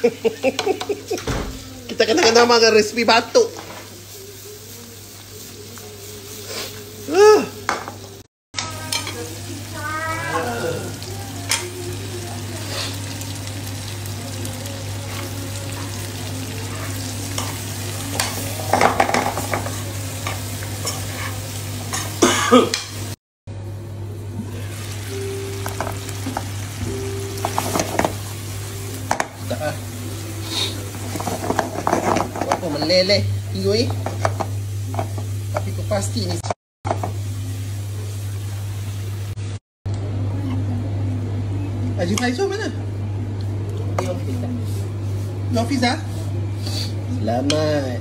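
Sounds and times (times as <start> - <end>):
meat sizzling in a wok: 0.1 - 23.2, 24.0 - 39.6.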